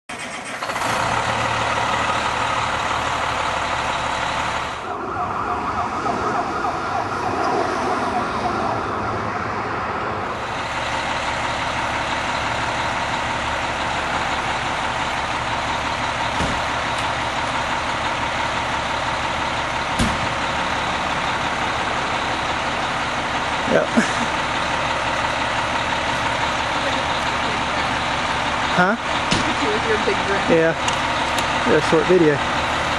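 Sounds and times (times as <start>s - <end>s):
fire engine running: 0.1s - 32.9s.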